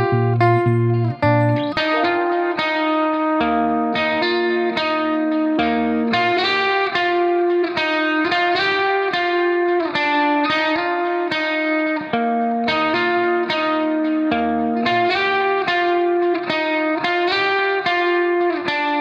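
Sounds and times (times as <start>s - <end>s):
electric guitar plucked pattern: 0.0s - 19.0s.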